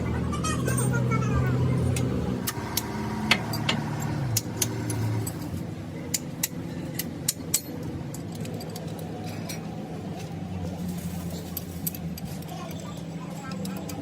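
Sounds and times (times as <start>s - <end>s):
engine running low: 0.0s - 14.0s.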